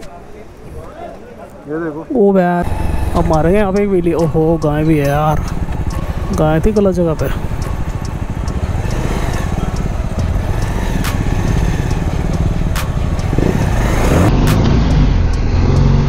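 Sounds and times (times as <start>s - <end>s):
sharp clicks: 2.6s - 15.9s
motorcycle engine running: 2.6s - 16.0s.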